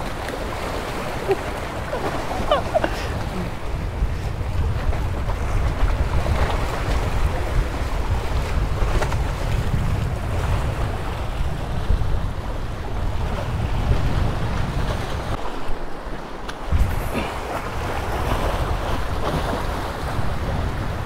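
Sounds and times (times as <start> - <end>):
waves splashing against concrete: 0.0 - 21.0
wind buffeting microphone: 0.0 - 21.0.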